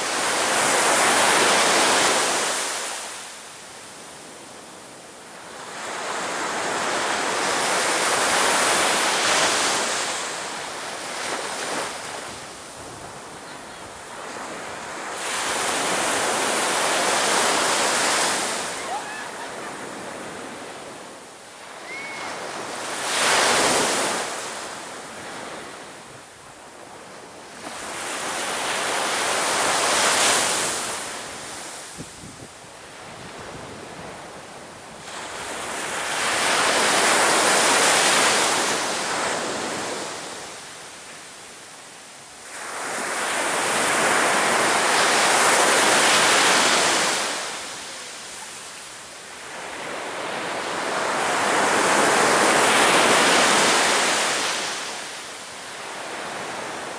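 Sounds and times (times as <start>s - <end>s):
sea waves breaking on beach: 0.0s - 3.6s, 5.4s - 26.1s, 26.9s - 32.1s, 34.9s - 41.3s, 42.3s - 56.9s.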